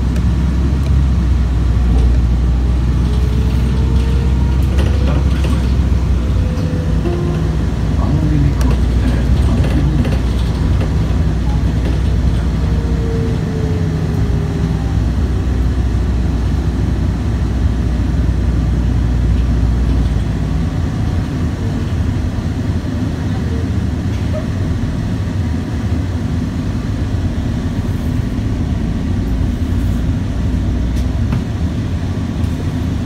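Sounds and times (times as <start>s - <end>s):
bus drivetrain drone: 0.0s - 33.0s
road and body rumble: 0.0s - 33.0s.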